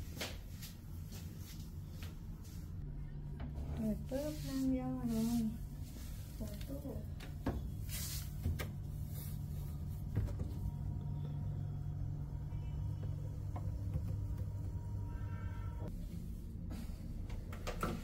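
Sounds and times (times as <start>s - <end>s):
fridge low hum: 0.0s - 18.0s.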